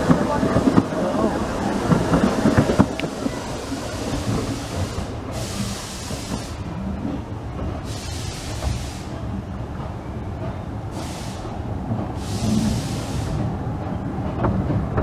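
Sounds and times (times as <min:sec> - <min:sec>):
steam hiss: 0:00.0 - 0:09.6, 0:10.8 - 0:13.8
steam train rumbling: 0:00.0 - 0:15.0.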